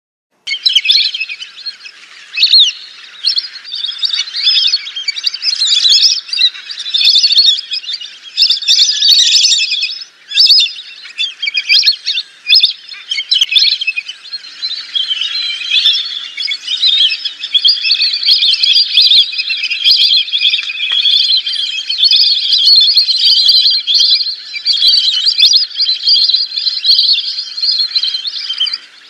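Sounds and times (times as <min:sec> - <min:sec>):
ducks whistling: 0:00.5 - 0:29.0.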